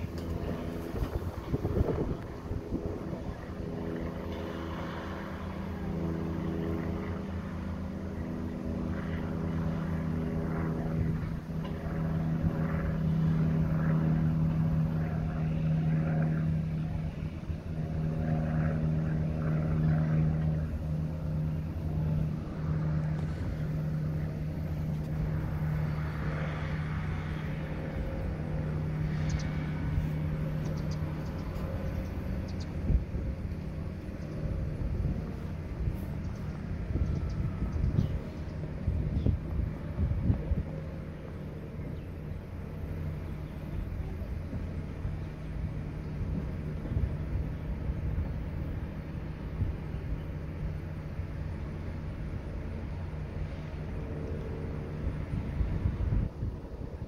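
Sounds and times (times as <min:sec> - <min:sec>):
track machine engines droning: 0:00.0 - 0:57.0.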